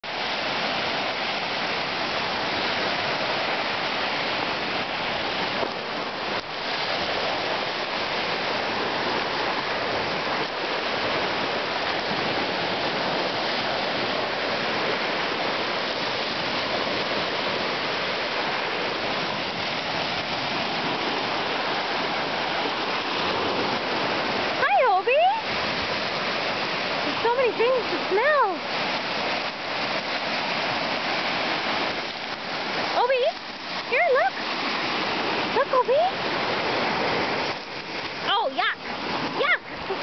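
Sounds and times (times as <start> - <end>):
waves washing onto pebble shore: 0.0 - 40.0.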